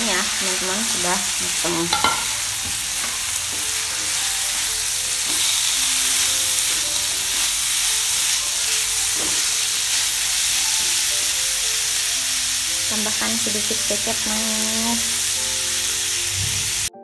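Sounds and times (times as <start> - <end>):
food sizzling in a wok: 0.0 - 16.9.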